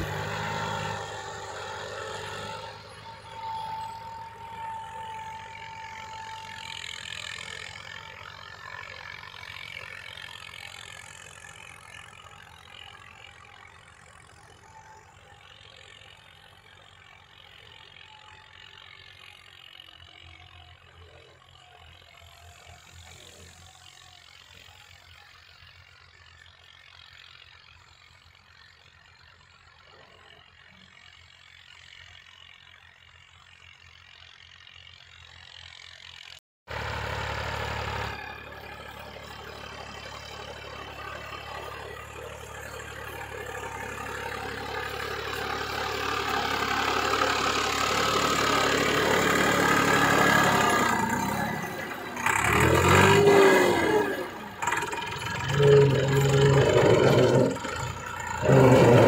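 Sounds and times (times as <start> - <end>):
faint tractor engines: 0.0 - 59.0
nearby tractor diesel engine: 0.0 - 59.0.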